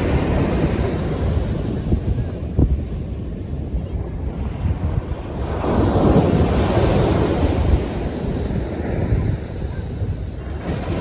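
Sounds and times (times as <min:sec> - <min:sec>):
rushing water waves: 0:00.0 - 0:11.0
wind rumbling on microphone: 0:00.0 - 0:11.0.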